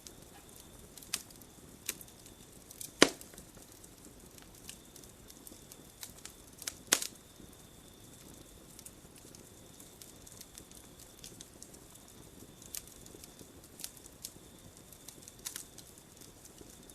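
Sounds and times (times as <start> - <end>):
campfire crackling and popping: 0.0 - 16.9.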